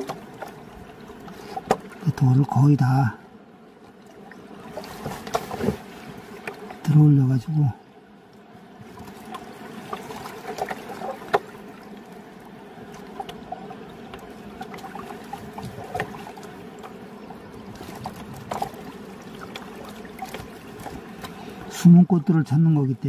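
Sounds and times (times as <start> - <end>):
river water trickling and sloshing: 0.0 - 23.0.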